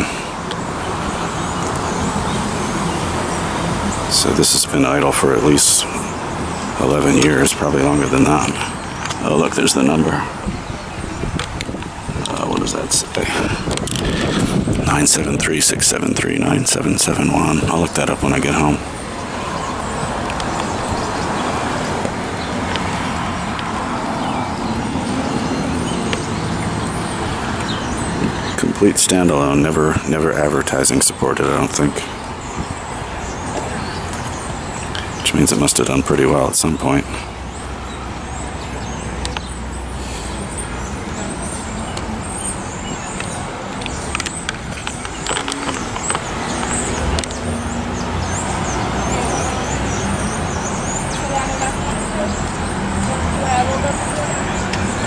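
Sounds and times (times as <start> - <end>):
cars passing on street: 0.0 - 55.0
road noise: 0.0 - 55.0.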